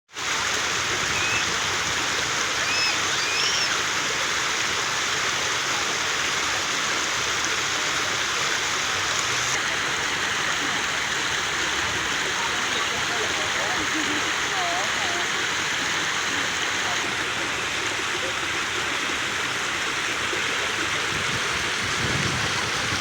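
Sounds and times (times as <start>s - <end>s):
running water rushing: 0.1s - 23.0s.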